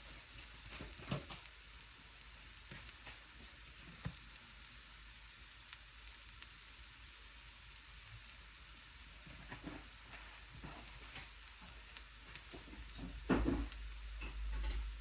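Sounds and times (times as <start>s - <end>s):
hash browns sizzling: 0.0s - 15.0s.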